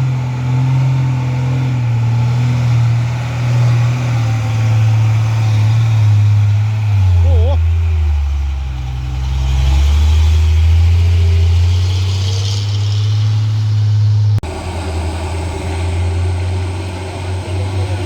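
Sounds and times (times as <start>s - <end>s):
deep engine drone: 0.0s - 18.0s.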